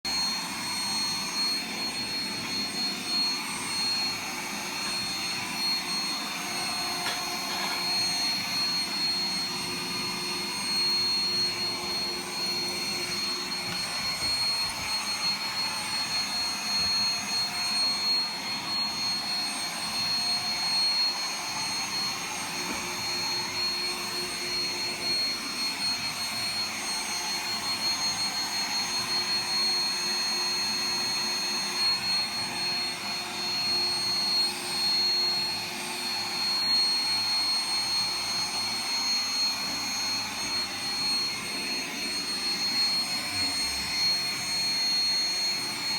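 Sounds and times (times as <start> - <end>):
robot vacuum whirring: 0.1 - 45.9.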